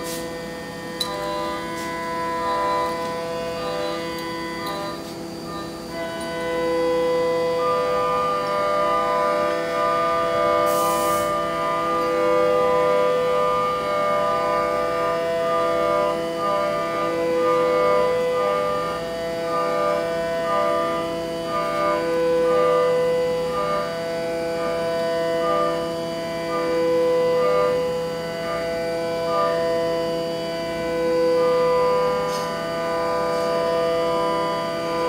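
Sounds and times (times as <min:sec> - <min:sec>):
ambient music of held notes: 0:00.0 - 0:35.0.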